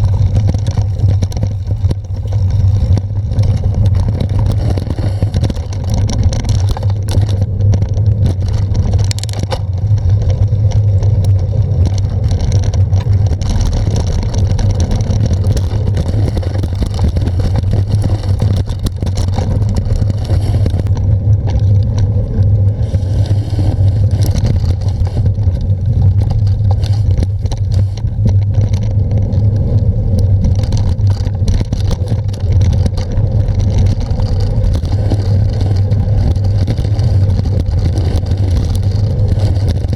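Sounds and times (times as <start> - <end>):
road noise: 0.0 - 39.9
wind noise on microphone: 0.0 - 39.9.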